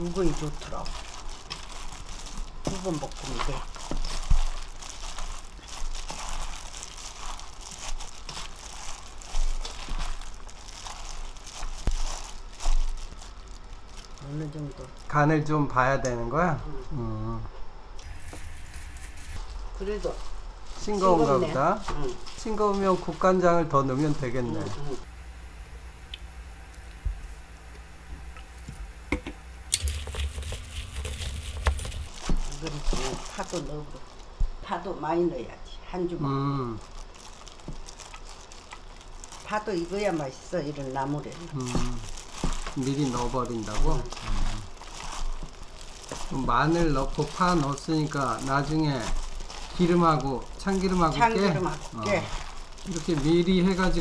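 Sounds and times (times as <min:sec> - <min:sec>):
wet stems rustling: 0:00.0 - 0:15.2, 0:18.0 - 0:34.7, 0:36.7 - 0:54.0
plastic gloves crinkling: 0:00.0 - 0:15.4, 0:18.0 - 0:35.0, 0:36.6 - 0:54.0.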